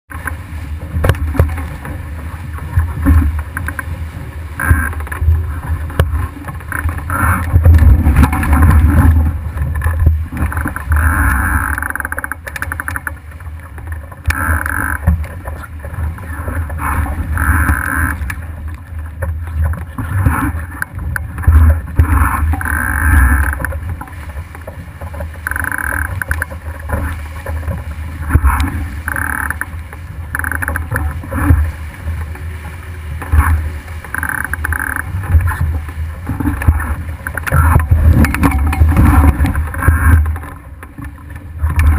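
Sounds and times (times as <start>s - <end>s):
water splashing against hull: 0.0s - 41.9s.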